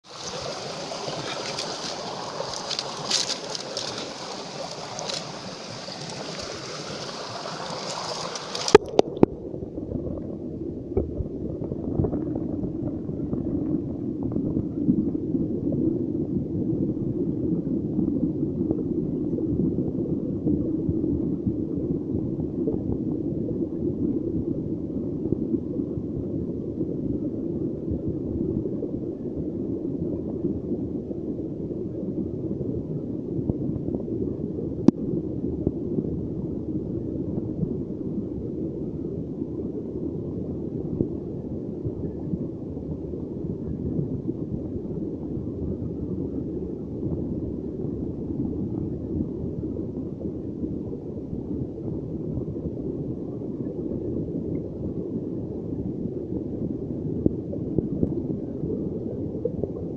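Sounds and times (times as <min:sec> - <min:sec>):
muffled low rumble: 0:00.0 - 0:59.9
water rushing and gurgling: 0:00.0 - 0:59.9.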